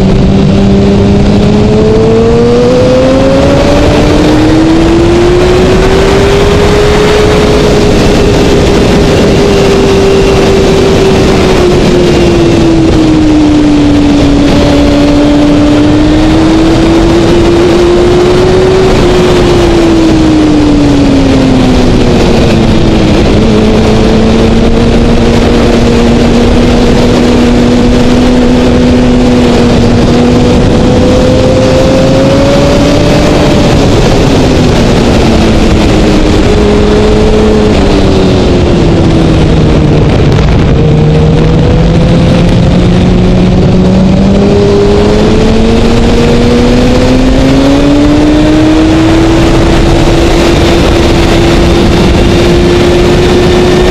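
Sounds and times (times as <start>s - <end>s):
motorcycle engine at speed: 0.0s - 53.9s
wind noise rushing: 0.0s - 53.9s.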